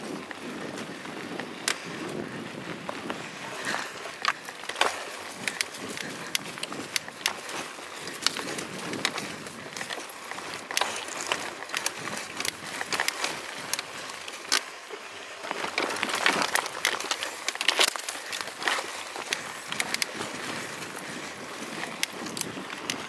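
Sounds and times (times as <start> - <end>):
bike rattling over bumps: 0.0 - 23.0
bike rolling on dirt trail: 0.0 - 23.0.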